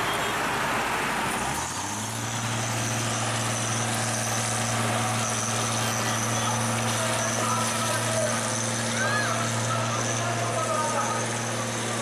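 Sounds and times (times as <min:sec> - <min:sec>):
street noise: 0:00.0 - 0:12.0
truck engine humming: 0:00.0 - 0:12.0.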